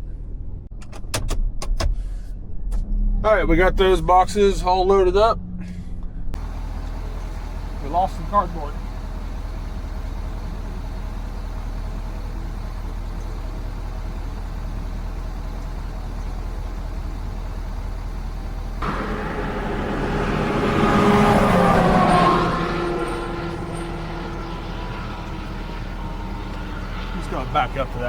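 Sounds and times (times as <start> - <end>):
truck engine revving: 2.8 - 28.0
truck engine idling: 5.2 - 28.0.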